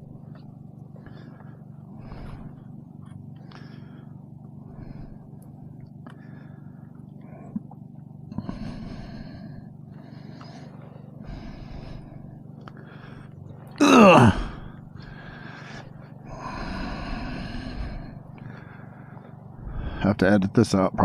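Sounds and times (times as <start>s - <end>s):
person breathing heavily: 0.0s - 7.7s, 8.3s - 20.2s
steady low hum: 0.0s - 21.0s.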